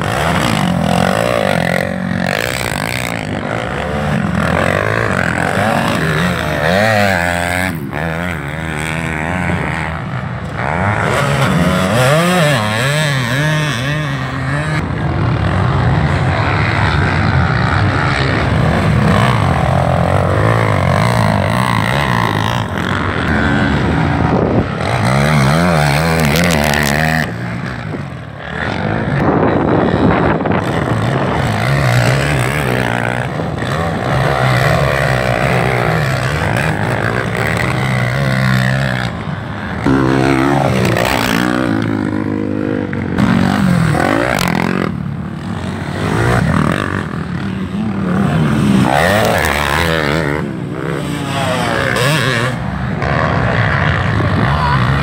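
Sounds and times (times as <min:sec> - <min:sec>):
quad bike engines revving: 0:00.0 - 0:55.0.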